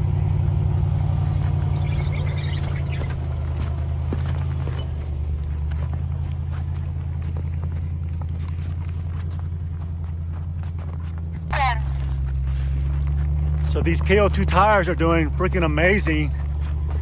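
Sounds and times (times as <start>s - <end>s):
engine running at low revs: 0.0s - 17.0s
snow crunching: 0.0s - 17.0s.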